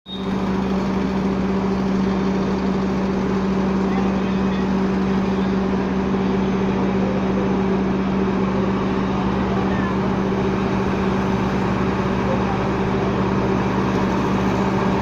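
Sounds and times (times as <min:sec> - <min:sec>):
heavy truck engine running: 0:00.1 - 0:15.0.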